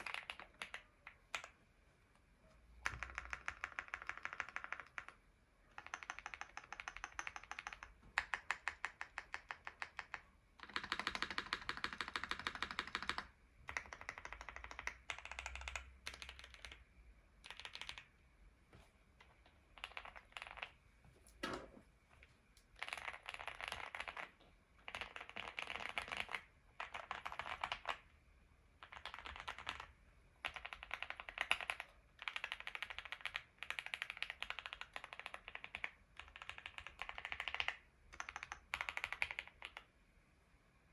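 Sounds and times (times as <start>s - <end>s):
mechanical keyboard typing: 0.0s - 1.6s, 2.8s - 18.1s, 19.2s - 20.8s, 22.7s - 28.1s, 28.8s - 39.9s.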